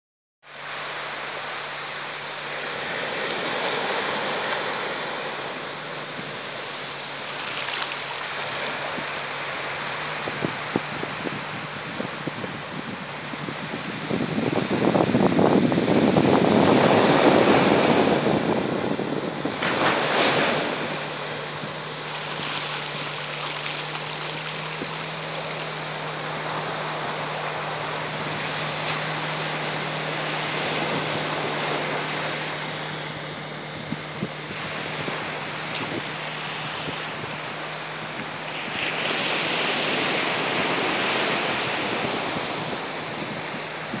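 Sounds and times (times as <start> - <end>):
outboard motor droning: 0.4 - 44.0
surf breaking: 0.8 - 44.0
wind buffeting microphone: 8.0 - 44.0.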